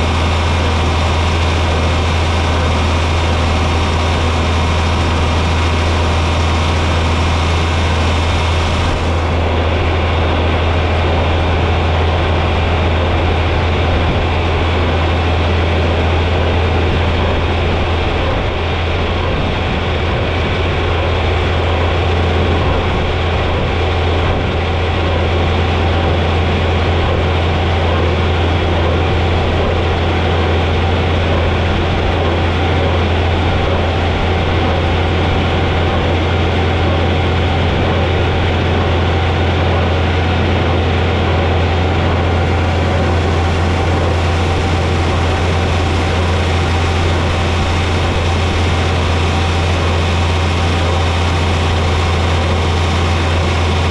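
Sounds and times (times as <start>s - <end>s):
tractor engine droning: 0.0s - 53.9s.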